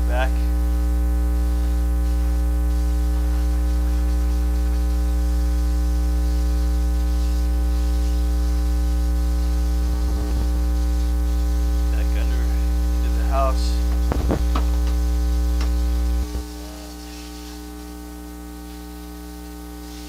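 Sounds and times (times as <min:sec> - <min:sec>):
electrical mains hum: 0:00.0 - 0:20.0
hiss: 0:01.4 - 0:15.0, 0:15.6 - 0:20.0.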